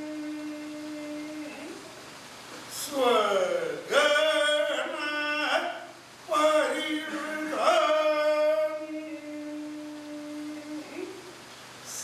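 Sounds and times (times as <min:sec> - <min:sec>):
person chanting a verse: 0:00.0 - 0:02.0, 0:02.7 - 0:11.3.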